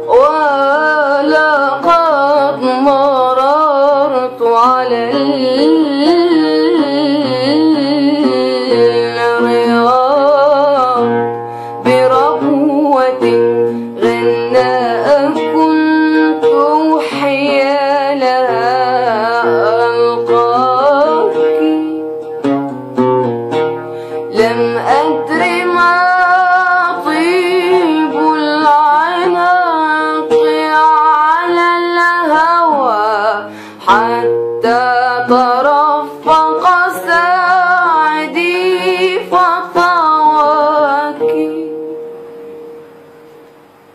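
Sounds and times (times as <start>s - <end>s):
woman singing: 0.0s - 22.4s, 24.2s - 42.2s
plucked string instrument: 0.0s - 43.9s.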